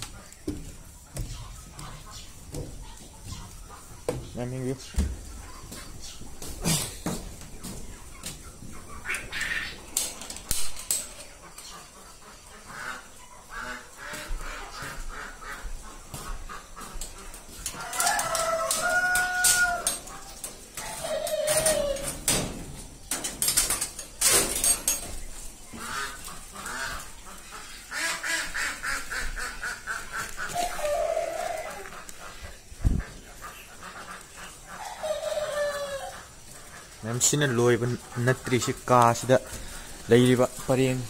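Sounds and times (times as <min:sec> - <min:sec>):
caged poultry calling: 0:00.0 - 0:41.0.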